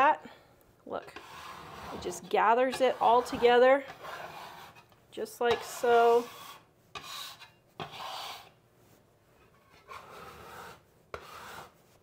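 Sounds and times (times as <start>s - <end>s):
metal scraper scraping wooden counter: 1.0s - 8.6s, 9.4s - 12.0s.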